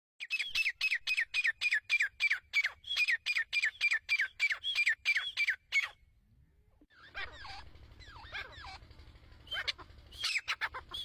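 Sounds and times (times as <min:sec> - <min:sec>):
bird calling: 0:00.2 - 0:06.1, 0:06.9 - 0:11.0.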